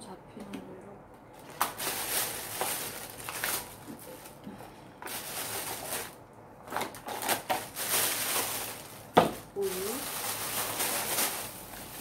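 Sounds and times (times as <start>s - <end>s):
plastic bag rustling: 1.3s - 4.4s, 5.0s - 12.0s.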